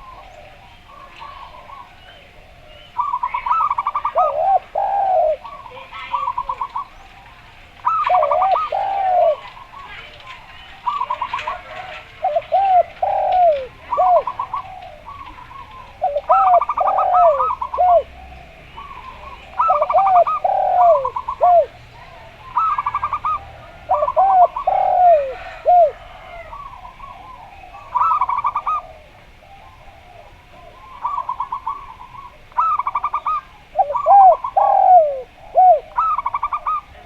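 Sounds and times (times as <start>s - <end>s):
doves cooing: 0.0s - 37.0s.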